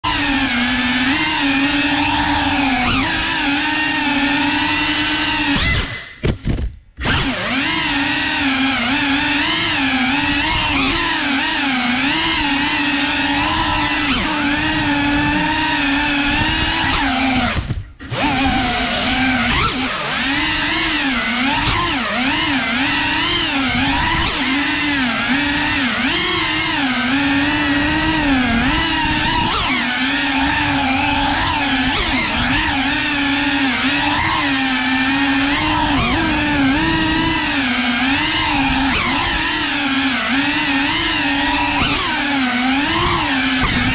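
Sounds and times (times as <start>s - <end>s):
drone motors and propellers whining: 0.0s - 43.9s.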